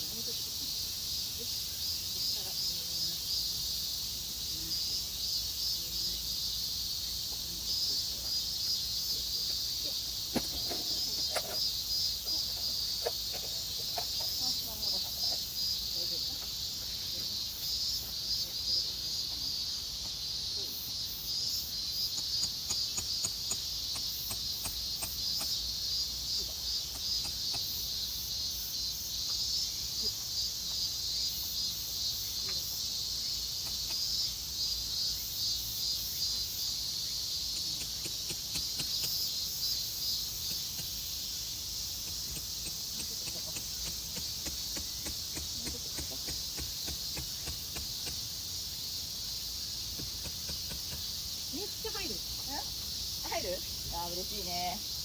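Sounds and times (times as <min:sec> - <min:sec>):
insects shrilling: 0:00.0 - 0:55.0.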